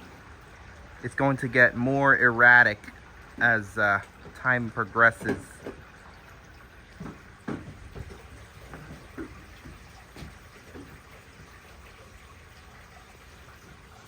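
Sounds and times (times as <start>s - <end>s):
heavy drips and splashes: 0.0s - 14.0s.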